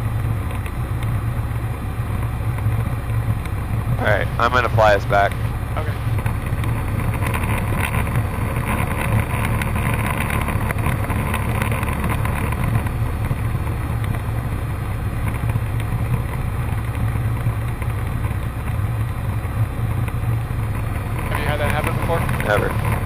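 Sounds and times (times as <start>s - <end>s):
airplane engine and propeller droning: 0.0s - 23.0s.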